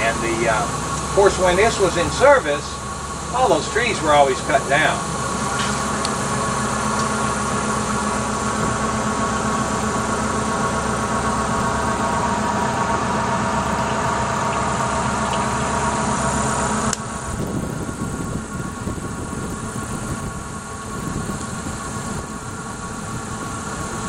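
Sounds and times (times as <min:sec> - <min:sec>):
boat engine humming: 0:00.0 - 0:24.0
water hissing: 0:00.0 - 0:24.0.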